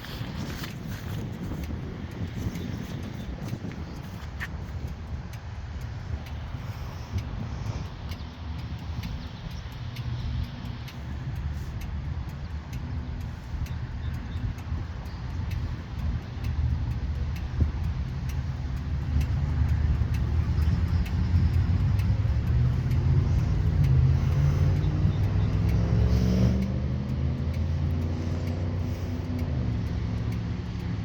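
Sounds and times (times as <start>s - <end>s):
large engine droning: 0.0s - 31.0s.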